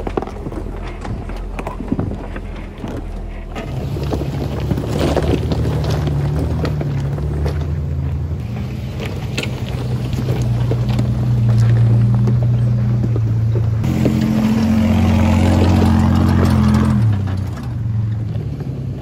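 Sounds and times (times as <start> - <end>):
off-road vehicle engine crawling: 0.0 - 19.0
rocks crunching under tyres: 0.0 - 19.0.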